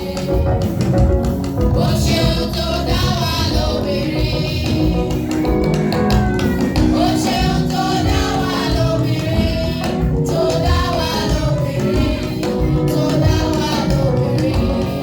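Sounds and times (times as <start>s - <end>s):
choir singing: 0.0s - 15.0s
drums and percussion: 0.0s - 15.0s.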